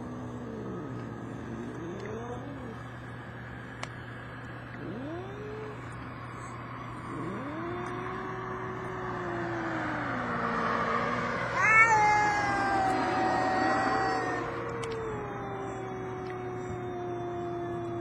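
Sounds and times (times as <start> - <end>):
cats yowling: 0.0 - 3.0, 4.7 - 18.0
steady low hum: 0.0 - 18.0.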